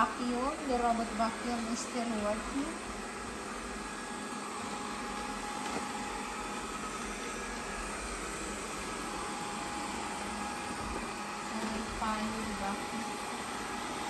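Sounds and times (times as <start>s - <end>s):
robot vacuum whirring: 0.0s - 14.0s.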